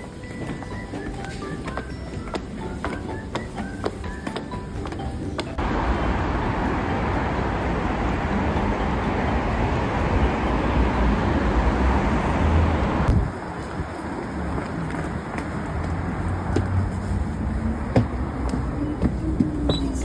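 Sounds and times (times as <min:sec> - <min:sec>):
moving vehicle rumbling: 0:00.0 - 0:20.0.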